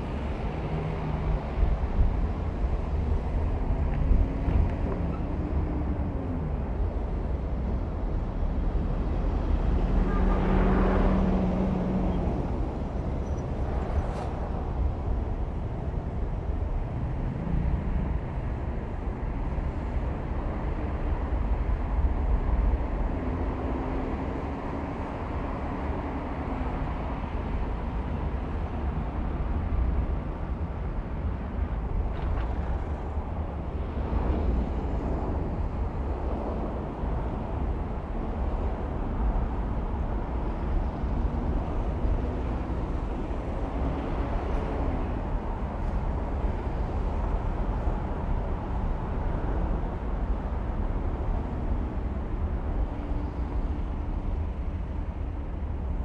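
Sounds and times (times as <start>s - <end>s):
road and engine rumble: 0.0s - 56.0s
surrounding traffic: 0.0s - 56.0s.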